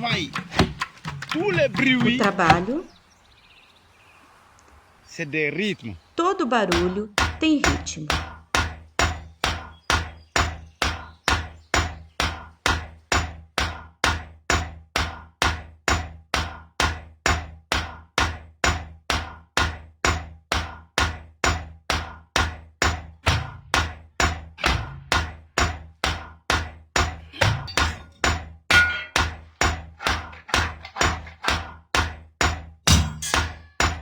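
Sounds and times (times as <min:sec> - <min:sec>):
hand tool strikes: 0:00.0 - 0:02.9, 0:06.5 - 0:34.0.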